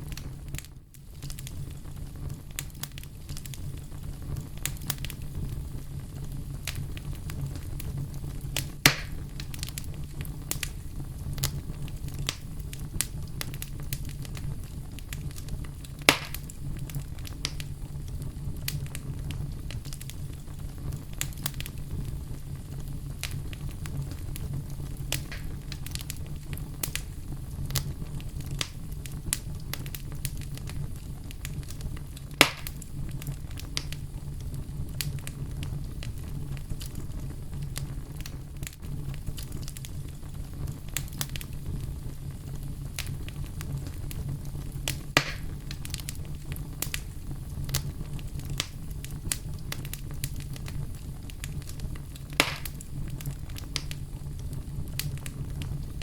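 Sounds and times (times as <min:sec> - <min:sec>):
campfire low rumble: 0:00.0 - 0:56.0
fire crackling: 0:00.0 - 0:56.0
loud fire pops: 0:00.0 - 0:56.0.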